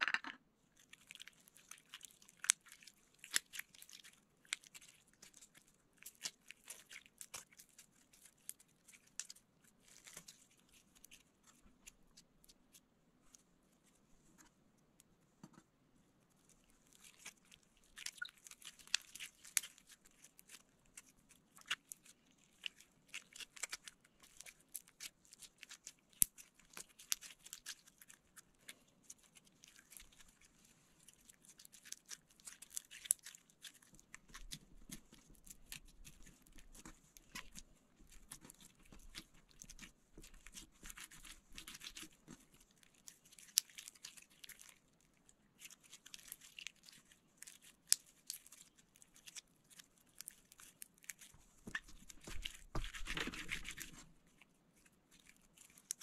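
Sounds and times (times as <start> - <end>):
slime kneaded by hand: 0.0 - 15.7, 16.3 - 56.0.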